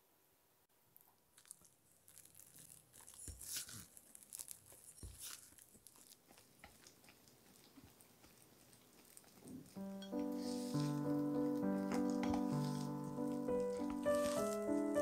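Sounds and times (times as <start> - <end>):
spatula squelching in batter: 2.8 - 15.0.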